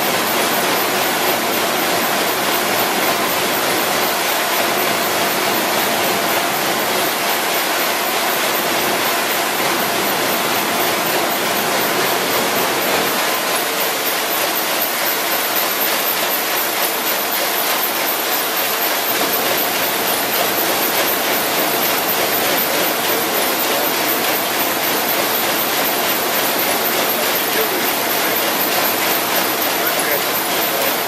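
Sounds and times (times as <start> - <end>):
printing press running: 0.0 - 31.0.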